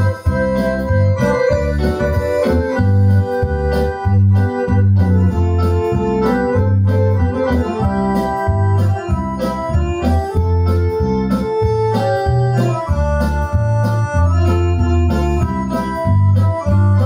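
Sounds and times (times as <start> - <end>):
accordion melody with chords: 0.0 - 17.0.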